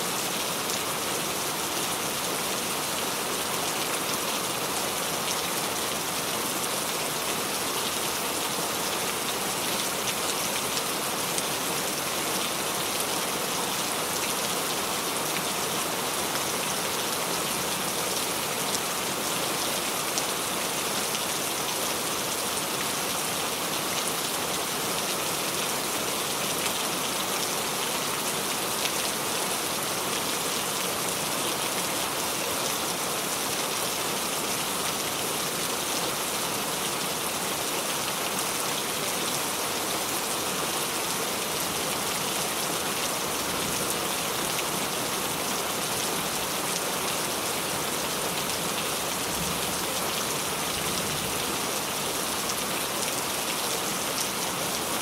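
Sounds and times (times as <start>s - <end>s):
rain falling on a surface: 0.0s - 55.0s.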